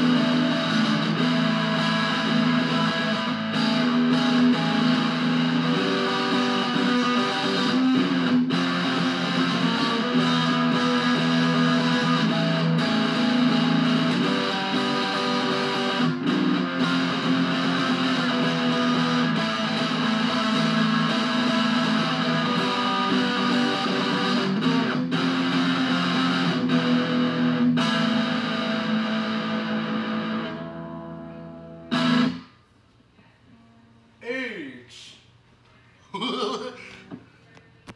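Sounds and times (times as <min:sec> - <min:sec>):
electric guitar ringing chords: 0:00.0 - 0:32.6.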